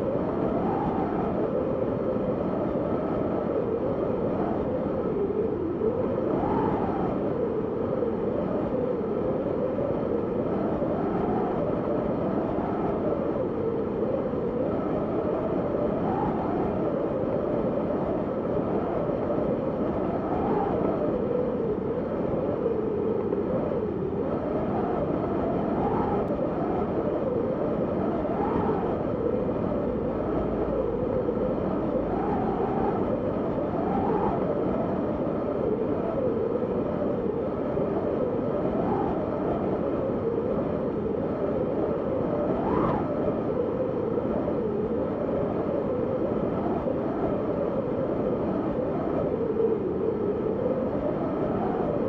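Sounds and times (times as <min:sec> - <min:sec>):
howling wind whistling: 0:00.0 - 0:52.0.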